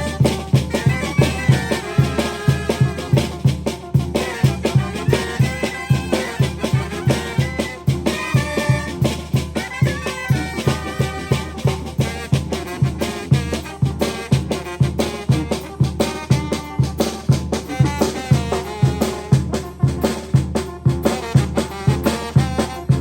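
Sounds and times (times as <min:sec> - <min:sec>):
bass drum beat: 0:00.0 - 0:23.0
brass band melody: 0:00.0 - 0:23.0.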